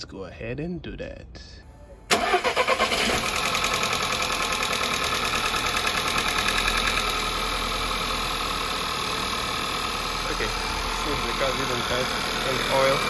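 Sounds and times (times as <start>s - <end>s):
car engine idling: 2.1s - 13.0s.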